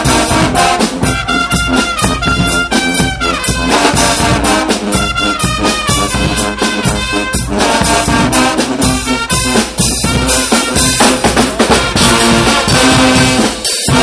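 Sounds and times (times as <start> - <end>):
brass band playing: 0.0 - 14.0
drum kit beat: 0.0 - 14.0.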